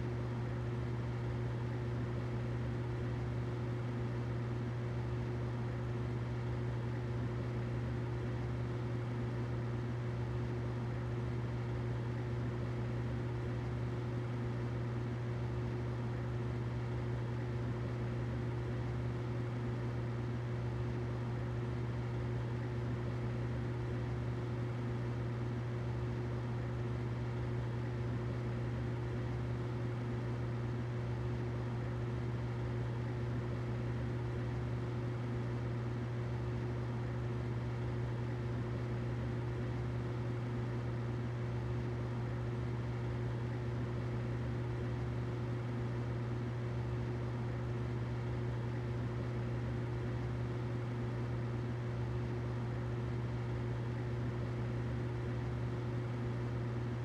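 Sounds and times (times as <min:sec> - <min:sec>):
humidifier humming: 0:00.0 - 0:57.0.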